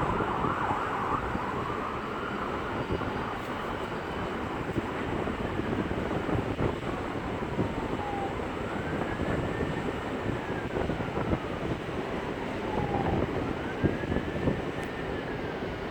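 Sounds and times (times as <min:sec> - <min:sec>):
emergency vehicle siren wailing: 0:00.0 - 0:15.9.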